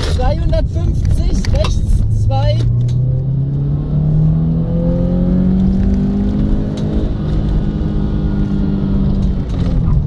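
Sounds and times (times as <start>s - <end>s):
car engine accelerating: 0.0s - 10.0s
road and tyre rumble: 0.0s - 10.0s.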